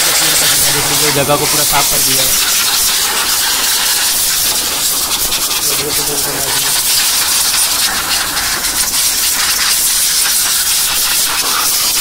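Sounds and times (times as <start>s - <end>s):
compressed air gun hissing: 0.0s - 12.0s.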